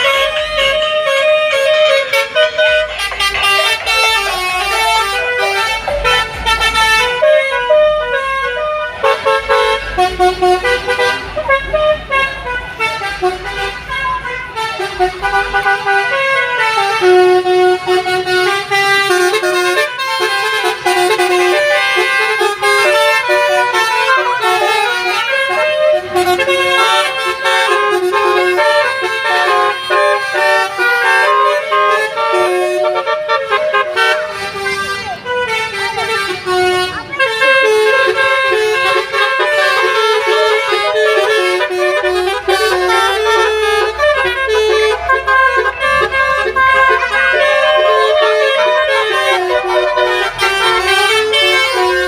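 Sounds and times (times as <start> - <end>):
multi-tone horns playing melody: 0.0 - 52.0.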